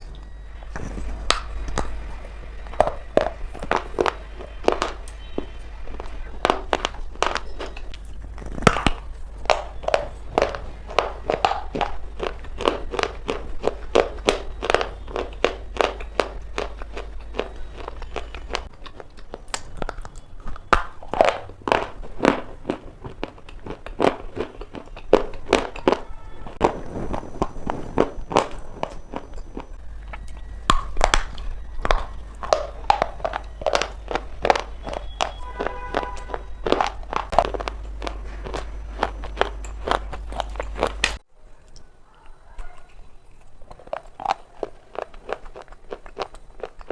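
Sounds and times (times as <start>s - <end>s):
shale being chewed: 0.0s - 46.9s.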